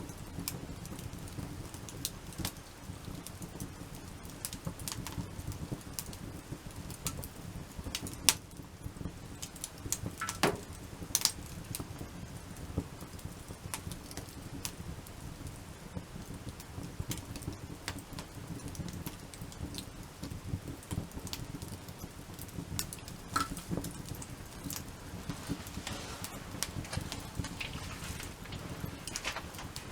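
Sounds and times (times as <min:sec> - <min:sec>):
campfire crackling and popping: 0:00.0 - 0:29.9
low fire rumble: 0:00.0 - 0:29.9.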